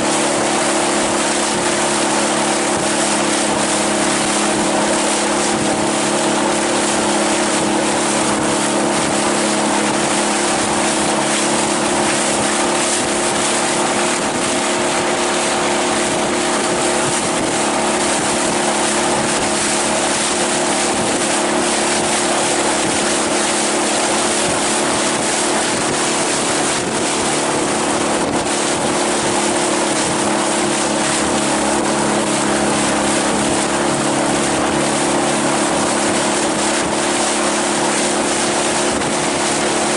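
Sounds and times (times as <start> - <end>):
outboard motor running: 0.0 - 39.9
rush of wind and water: 0.0 - 39.9.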